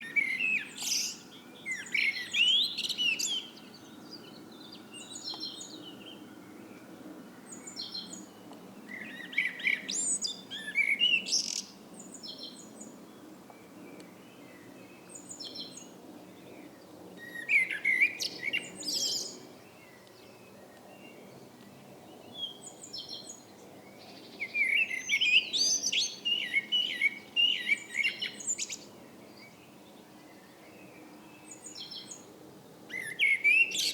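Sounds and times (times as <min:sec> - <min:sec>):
blackbird singing: 0:00.0 - 0:06.8, 0:07.5 - 0:13.2, 0:13.8 - 0:21.2, 0:22.3 - 0:32.2, 0:32.9 - 0:33.9.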